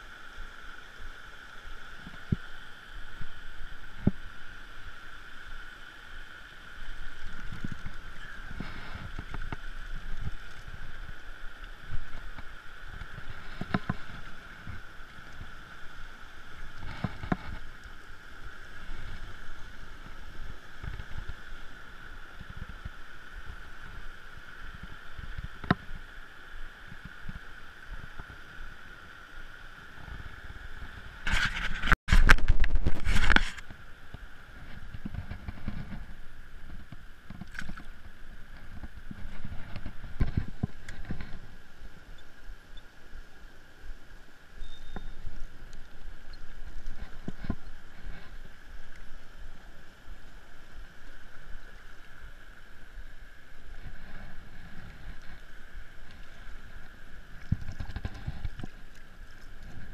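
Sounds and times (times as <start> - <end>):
creek water rushing over stones: 0.0 - 59.9.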